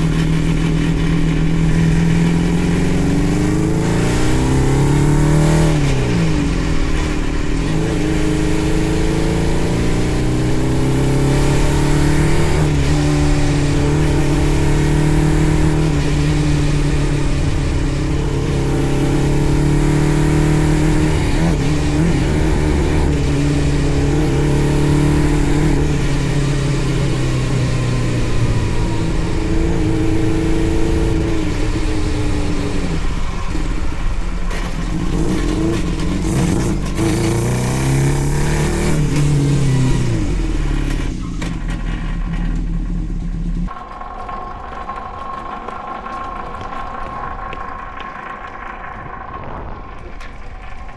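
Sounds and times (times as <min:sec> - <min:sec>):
go-kart engine running: 0:00.0 - 0:50.9.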